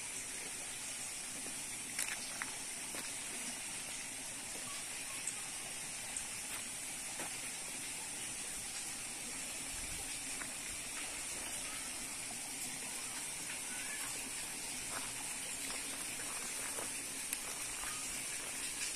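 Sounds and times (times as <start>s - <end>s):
outdoor background hiss: 0.0s - 18.9s.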